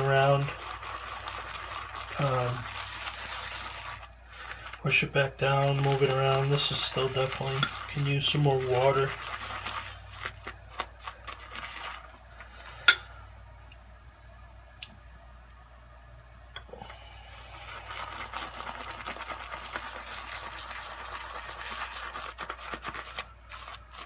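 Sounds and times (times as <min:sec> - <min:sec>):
shaving brush lathering soap: 0:00.0 - 0:13.9, 0:16.8 - 0:24.0.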